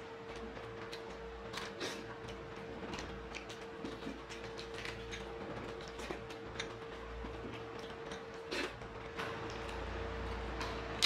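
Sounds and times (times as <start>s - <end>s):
steady hum: 0.0s - 11.0s
chewing smacks: 0.3s - 9.8s.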